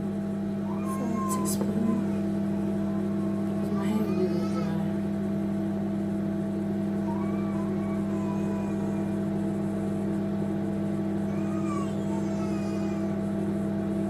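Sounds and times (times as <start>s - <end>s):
electrical appliance hum: 0.0s - 14.0s.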